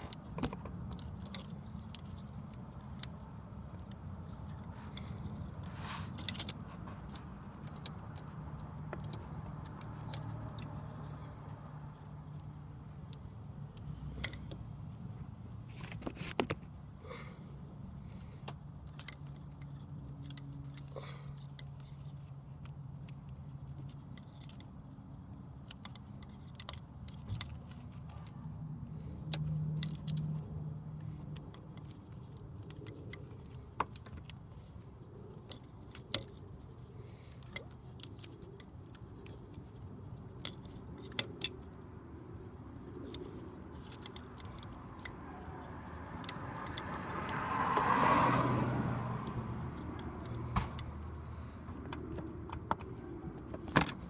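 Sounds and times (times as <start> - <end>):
clicks and rattles of wiring: 0.0 - 14.6, 18.1 - 48.0.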